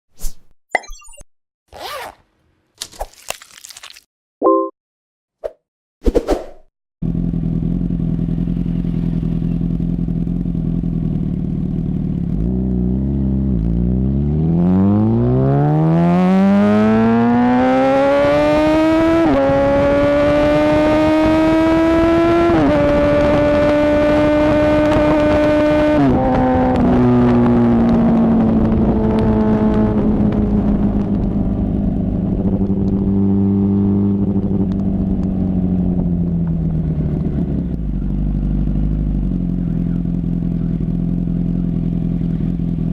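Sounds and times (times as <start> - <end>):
motorcycle engine revving: 7.0 - 42.9.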